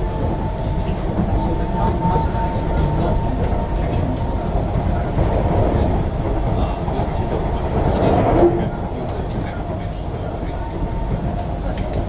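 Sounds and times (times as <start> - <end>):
wheels rumbling on track: 0.0 - 12.0.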